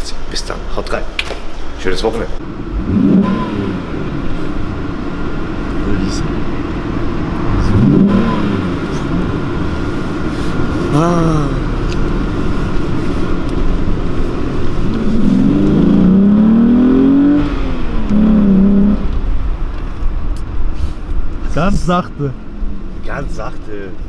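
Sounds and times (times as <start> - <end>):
car engine accelerating: 2.4 - 24.0.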